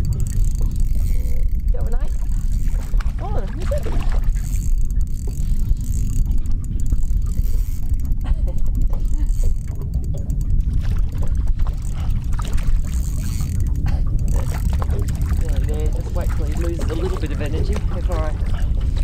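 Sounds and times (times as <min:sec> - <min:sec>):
fishing reel winding: 0:00.0 - 0:18.3
wind and water rumble: 0:00.0 - 0:19.0.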